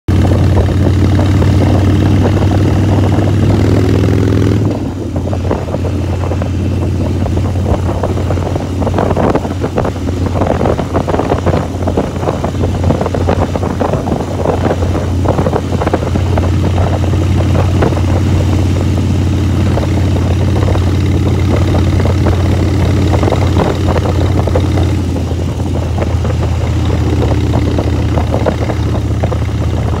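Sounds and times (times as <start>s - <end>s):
motorcycle engine running: 0.1s - 30.0s
wind on microphone: 0.1s - 30.0s.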